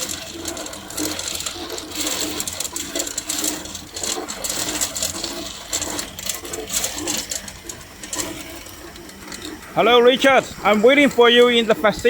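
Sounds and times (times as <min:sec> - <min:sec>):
ice machine clattering: 0:00.0 - 0:12.0.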